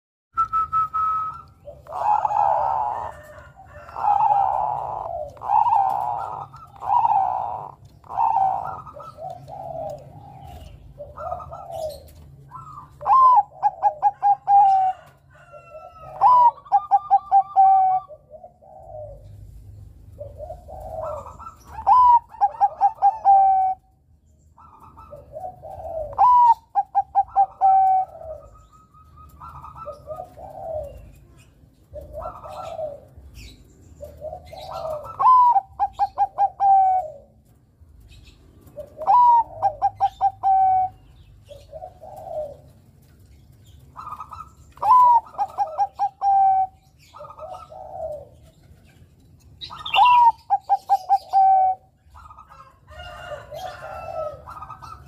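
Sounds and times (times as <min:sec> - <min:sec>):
dove cooing: 0:00.5 - 0:55.0.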